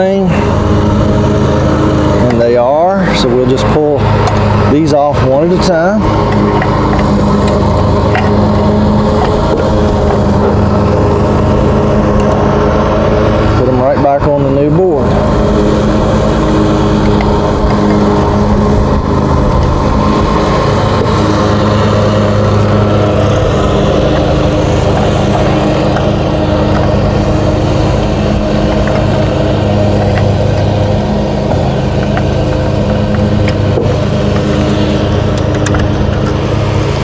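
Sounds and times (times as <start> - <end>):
lawn mower engine running: 0.0 - 37.0.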